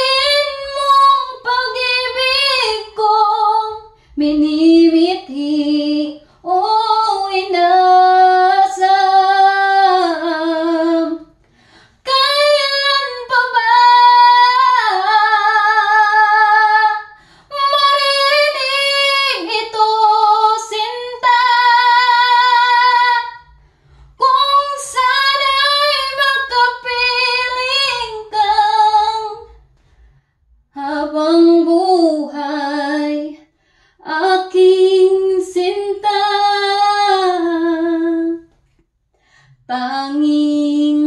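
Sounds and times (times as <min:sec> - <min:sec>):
woman singing a cappella: 0:00.0 - 0:29.6, 0:30.7 - 0:38.6, 0:39.6 - 0:41.0.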